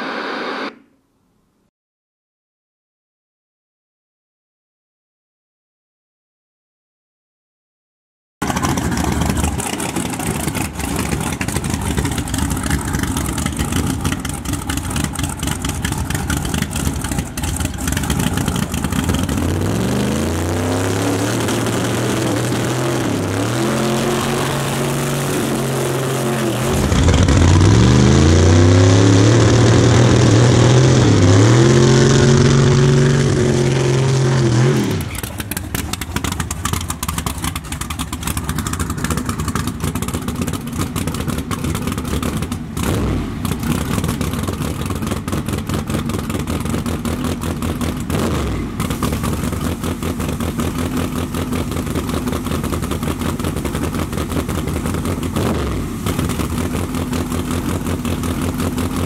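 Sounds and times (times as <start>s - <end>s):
car engine running roughly: 8.4s - 31.5s, 32.2s - 59.0s
car engine revving: 8.4s - 59.0s.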